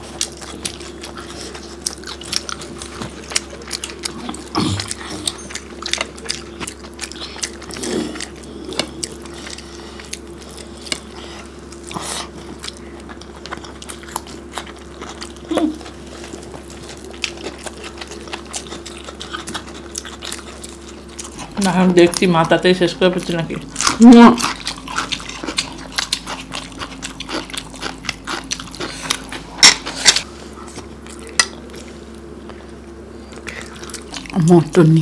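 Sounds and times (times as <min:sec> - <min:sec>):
chewing and biting food: 0:00.0 - 0:35.0
steady low hum: 0:00.0 - 0:35.0.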